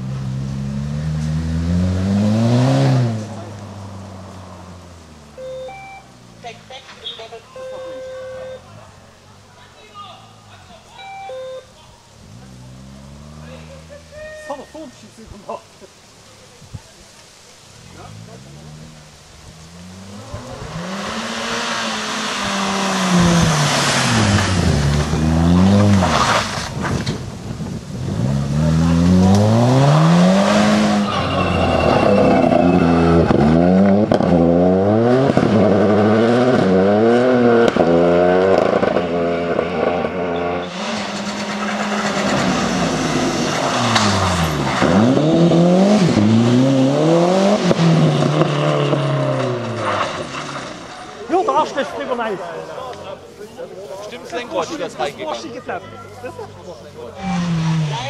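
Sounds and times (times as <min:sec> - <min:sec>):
rally car engines revving past: 0:00.0 - 0:09.0, 0:12.2 - 0:14.6, 0:17.8 - 0:53.4, 0:56.3 - 0:58.0.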